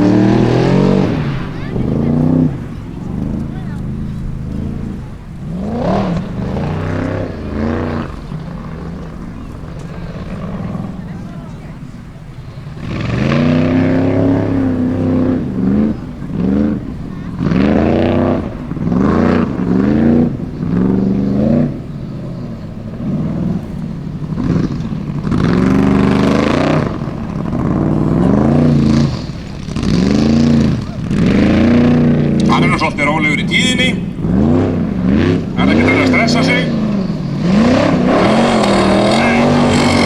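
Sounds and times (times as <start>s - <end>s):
buggy engine revving: 0.0s - 40.0s.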